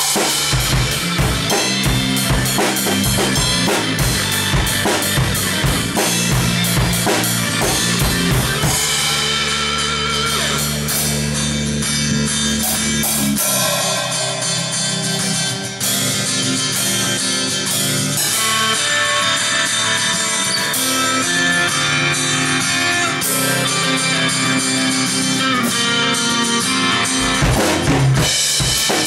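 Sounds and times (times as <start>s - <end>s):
drum kit playing: 0.0s - 29.0s
rock music with bass and guitar: 0.0s - 29.0s.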